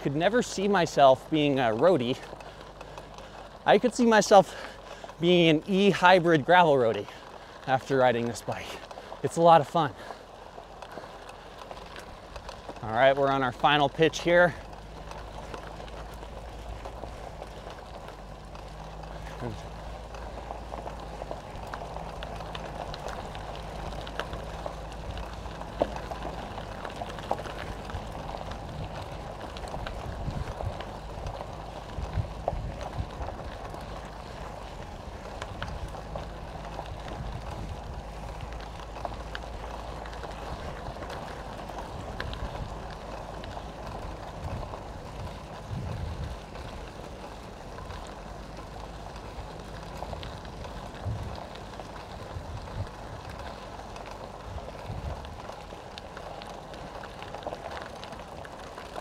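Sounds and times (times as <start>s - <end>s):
light clicks and ticks: 0.0s - 59.0s
road noise hum and rumble: 0.0s - 59.0s.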